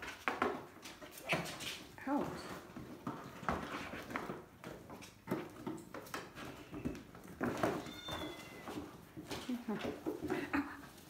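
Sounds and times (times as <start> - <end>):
kitten paws thumping and scratching: 0.0 - 11.0.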